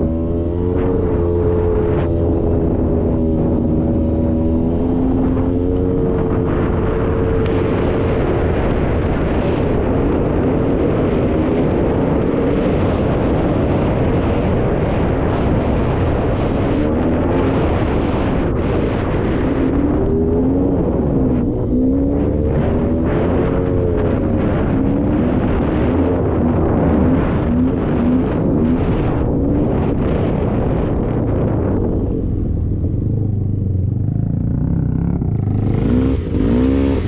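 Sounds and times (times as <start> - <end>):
atv engine running: 0.0 - 37.0
wind and trail noise: 0.0 - 37.0.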